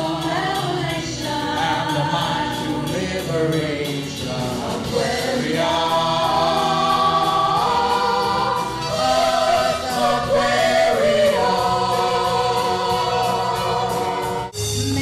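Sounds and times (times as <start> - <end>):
vocal group singing in harmony: 0.0 - 15.0.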